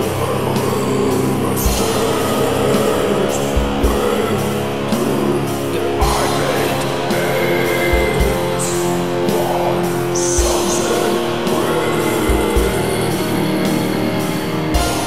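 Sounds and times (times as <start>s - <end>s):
heavy guitar chords: 0.0s - 15.0s.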